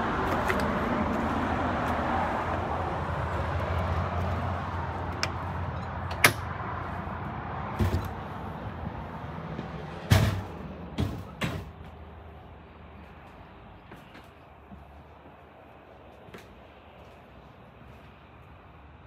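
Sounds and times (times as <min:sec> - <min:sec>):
steady outdoor hum: 0:00.0 - 0:19.0.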